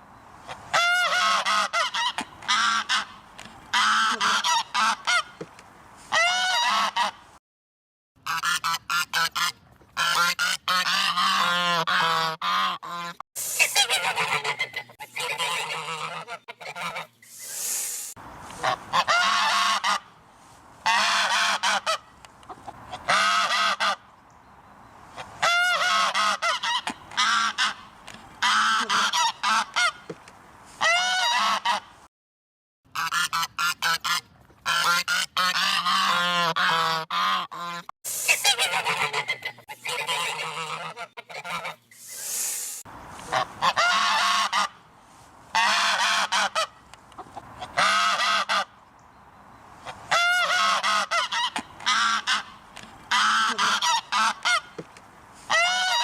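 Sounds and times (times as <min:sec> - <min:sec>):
geese honking: 0:00.4 - 0:05.4, 0:06.1 - 0:07.2, 0:08.2 - 0:17.2, 0:18.5 - 0:20.2, 0:20.8 - 0:24.1, 0:25.2 - 0:30.1, 0:30.8 - 0:31.9, 0:33.0 - 0:41.9, 0:43.2 - 0:44.8, 0:45.5 - 0:48.8, 0:49.8 - 0:54.8, 0:55.4 - 0:56.0.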